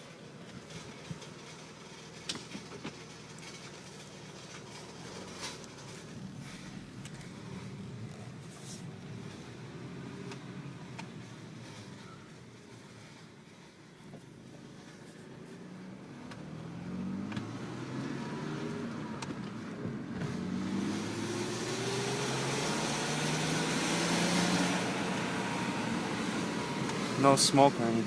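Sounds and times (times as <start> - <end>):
road and wind noise: 0.0 - 28.0
car engine accelerating hard: 1.0 - 13.6, 14.6 - 28.0.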